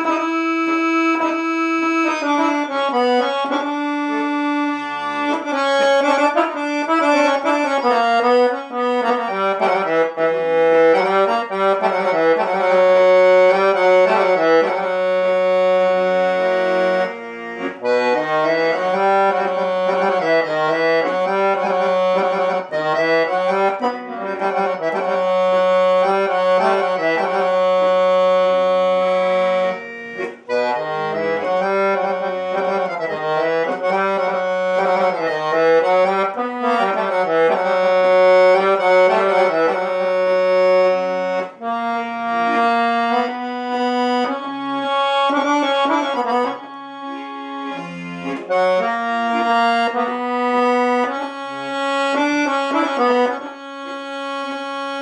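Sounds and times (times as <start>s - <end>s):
accordion bass notes: 0.0s - 55.0s
accordion melody: 0.0s - 55.0s.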